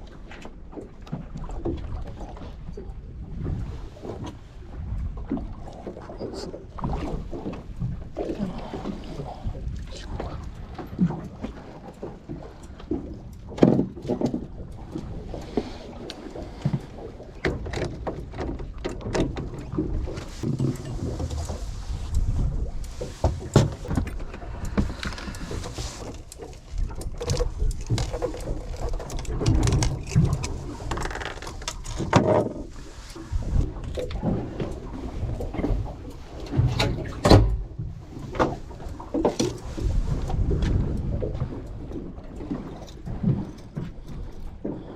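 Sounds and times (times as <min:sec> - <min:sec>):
knocks and thumps on a boat: 0:00.0 - 0:44.9
water splashing and rumbling: 0:00.0 - 0:44.9.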